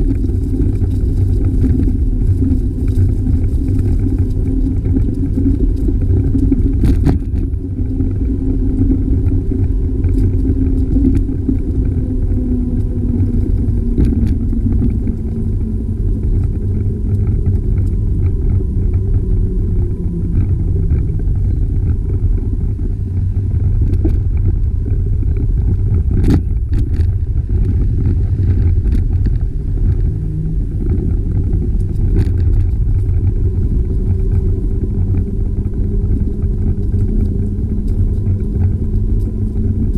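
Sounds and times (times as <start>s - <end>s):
wind and road noise rumble: 0.0s - 39.9s.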